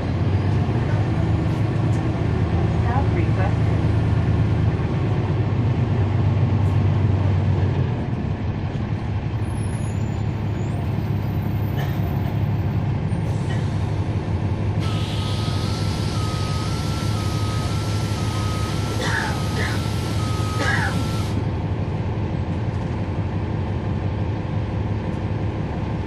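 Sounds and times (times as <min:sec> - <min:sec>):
diesel bus engine humming: 0:00.0 - 0:26.0.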